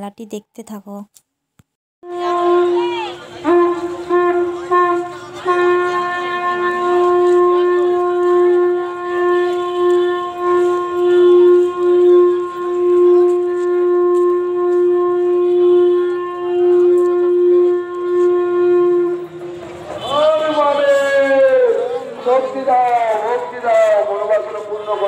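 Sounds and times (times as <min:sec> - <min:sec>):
wind instrument long note: 0:02.0 - 0:25.0.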